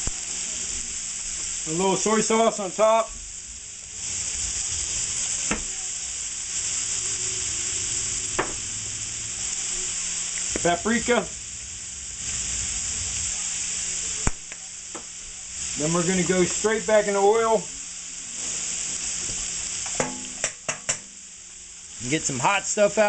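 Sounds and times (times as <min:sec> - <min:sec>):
food sizzling in a skillet: 0:00.0 - 0:23.0.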